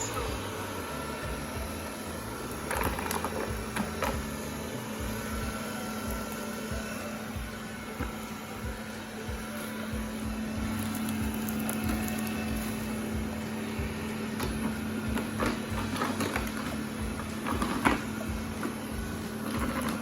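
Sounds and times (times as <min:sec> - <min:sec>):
robot vacuum motor hum: 0:00.0 - 0:20.0.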